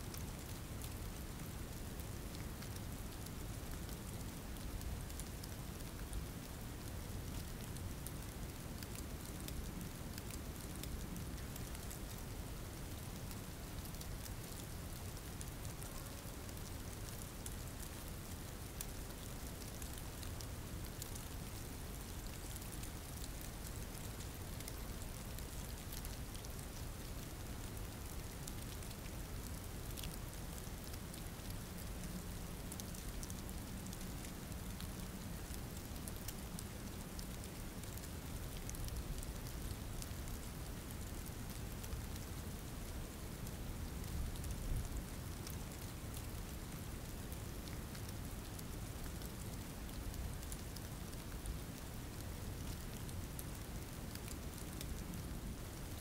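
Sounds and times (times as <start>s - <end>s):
steady rain falling: 0.0s - 56.0s
sharp raindrop ticks: 0.1s - 56.0s.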